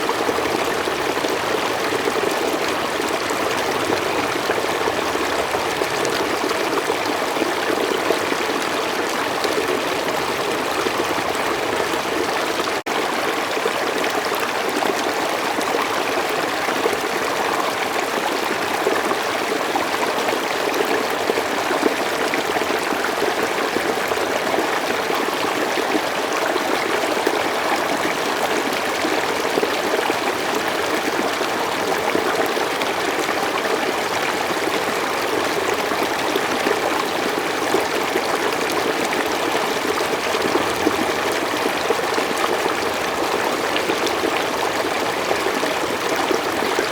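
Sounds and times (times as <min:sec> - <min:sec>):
stream water trickling: 0:00.0 - 0:46.9.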